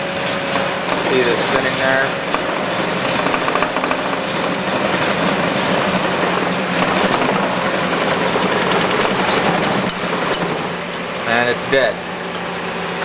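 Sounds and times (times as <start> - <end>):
car engine running rough: 0.0 - 13.0.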